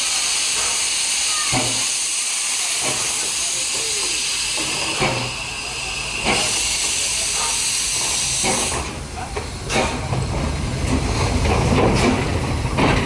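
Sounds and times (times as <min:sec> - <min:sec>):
locomotive rolling rumble: 0:00.0 - 0:13.0
steam locomotive hissing: 0:00.0 - 0:13.0.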